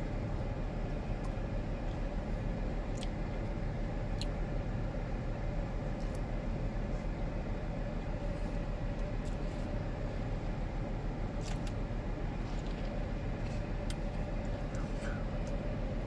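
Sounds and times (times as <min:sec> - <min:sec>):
car engine idling: 0:00.0 - 0:16.0
constant hum: 0:00.0 - 0:16.0.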